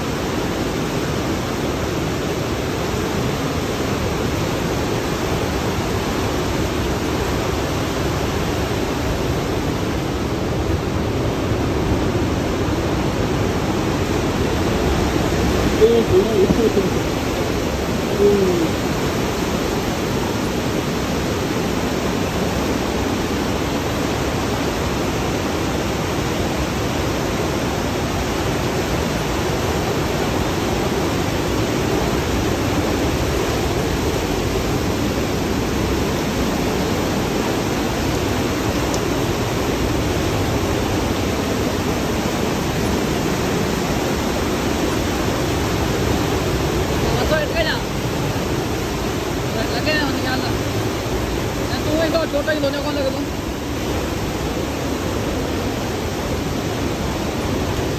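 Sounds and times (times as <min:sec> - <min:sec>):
whitewater rushing through gorge: 0:00.0 - 0:57.9.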